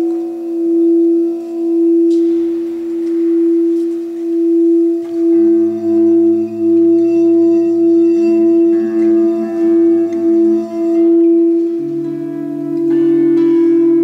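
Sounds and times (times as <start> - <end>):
lower singing bowl tone: 0.0 - 14.0
singing bowl tone: 0.0 - 14.0.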